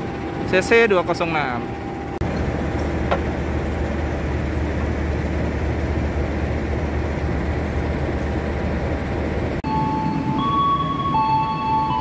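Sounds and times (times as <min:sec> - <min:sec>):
locomotive engine idling: 0:00.0 - 0:12.0.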